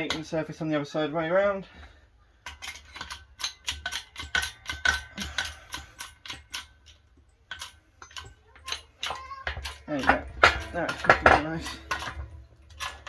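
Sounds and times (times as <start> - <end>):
rapid metallic clicks with ringing: 2.4 - 13.0.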